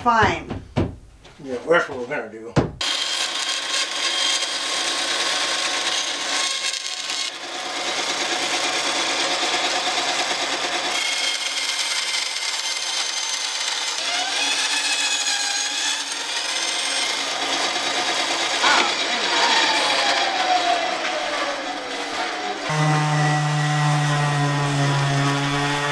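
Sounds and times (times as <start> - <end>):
bandsaw cutting wood: 2.8 - 25.9.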